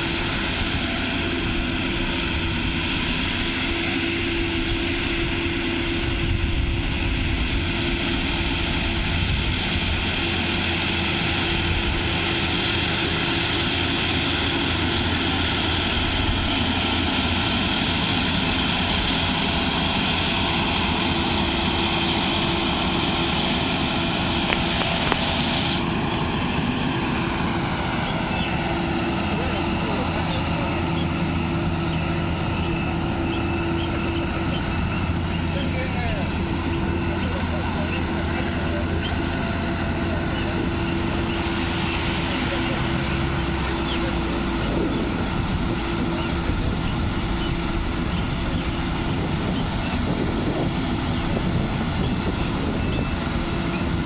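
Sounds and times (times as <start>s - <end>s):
harvester engine rumbling: 0.0s - 54.0s
steady machine whine: 0.0s - 54.0s.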